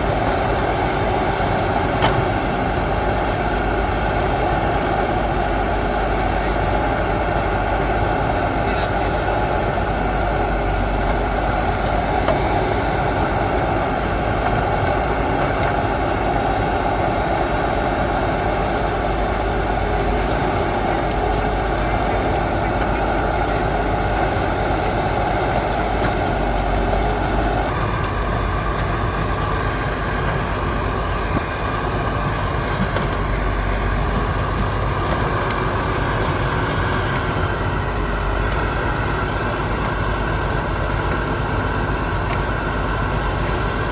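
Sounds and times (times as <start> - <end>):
backhoe diesel engine running: 0.0 - 43.9.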